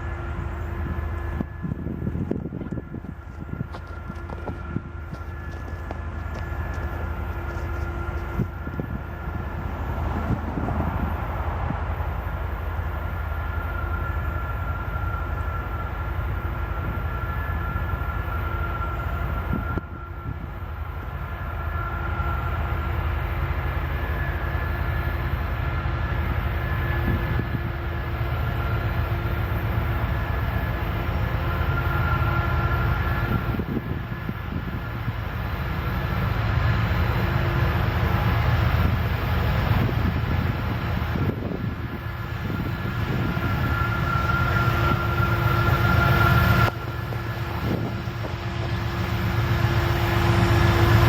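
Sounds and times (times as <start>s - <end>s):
faint high ringing tone: 0.0s - 9.7s, 12.0s - 36.0s, 41.2s - 51.0s
train wheels rumbling on rail: 0.0s - 51.0s.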